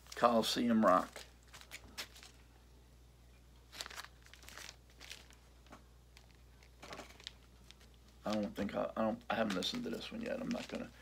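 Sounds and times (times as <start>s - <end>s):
plastic sleeve crinkling: 0.0s - 2.5s, 3.6s - 11.0s
steady low hum: 0.0s - 11.0s.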